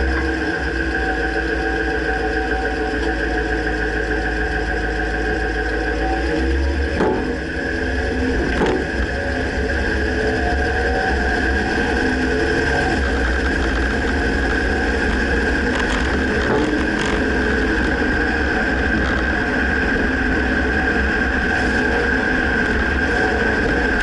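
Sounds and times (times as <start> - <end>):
pickup engine and road rumble: 0.0 - 24.0.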